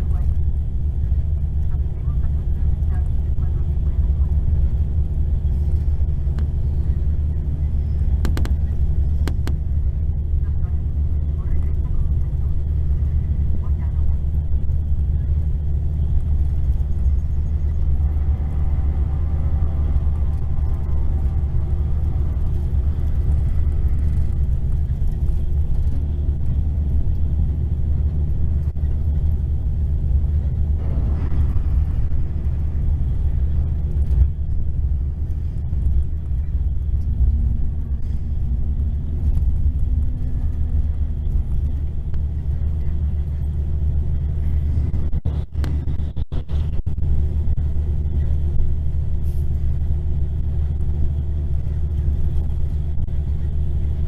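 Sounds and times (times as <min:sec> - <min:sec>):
diesel coach engine rumble: 0:00.0 - 0:54.0
road noise: 0:00.0 - 0:54.0.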